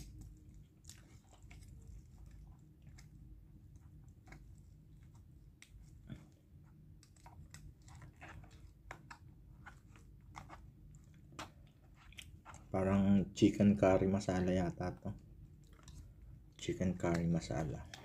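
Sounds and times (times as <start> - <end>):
soft chewing: 0.0 - 13.4, 15.0 - 18.0
low steady hum: 0.0 - 18.0.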